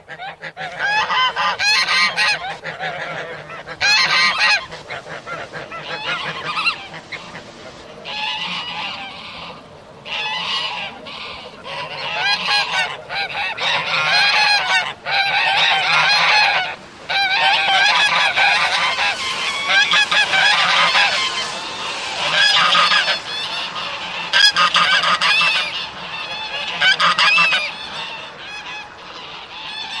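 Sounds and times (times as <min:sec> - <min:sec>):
geese honking: 0:00.0 - 0:30.0.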